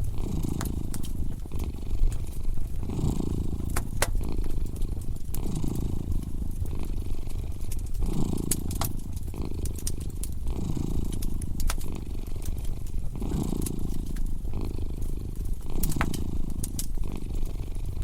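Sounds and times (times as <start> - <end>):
cat purring: 0.0 - 18.0
wood fire crackling: 0.0 - 18.0.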